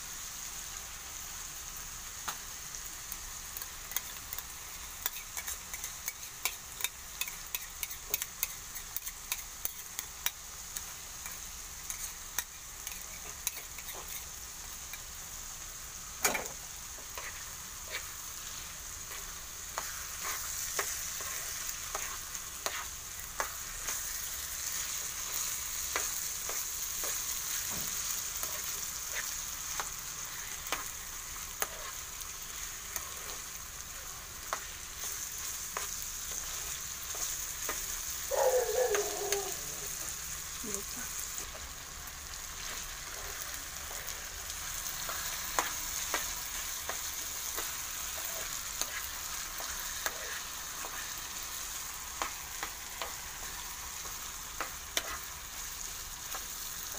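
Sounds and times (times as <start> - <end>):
meat sizzling in a frying pan: 0.0 - 56.9.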